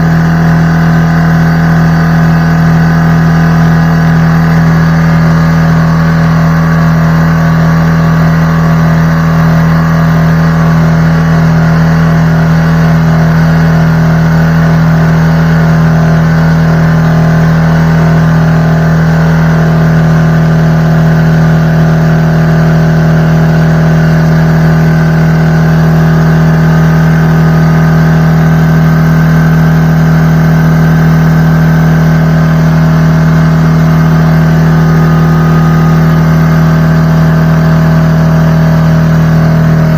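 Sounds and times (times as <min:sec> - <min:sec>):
air compressor motor hum: 0:00.0 - 0:39.9.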